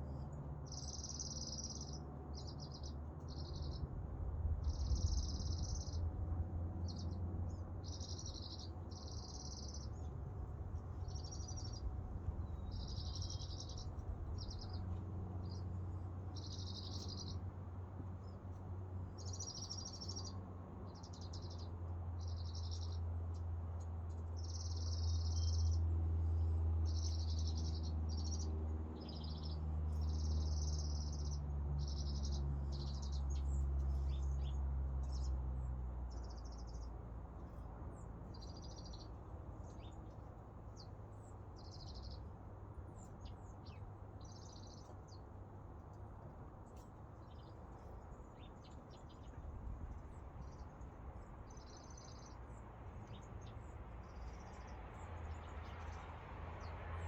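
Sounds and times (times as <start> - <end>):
small birds chirping: 0.0 - 3.9, 4.6 - 6.1, 6.8 - 10.2, 10.8 - 56.8.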